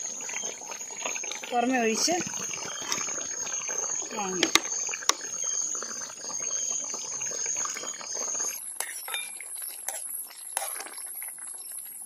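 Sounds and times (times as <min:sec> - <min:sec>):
curry bubbling in a pot: 0:00.0 - 0:12.0
oil pouring: 0:00.0 - 0:12.0.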